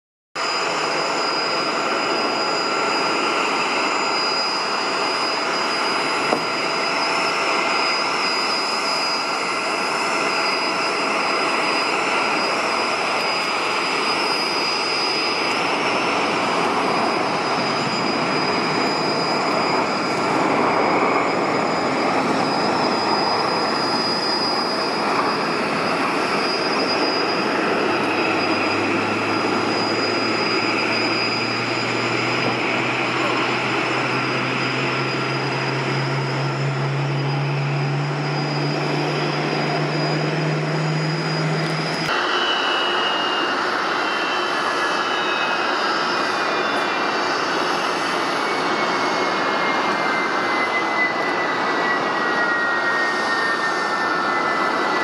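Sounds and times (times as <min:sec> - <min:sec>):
jet engines whining: 0:00.4 - 0:55.0.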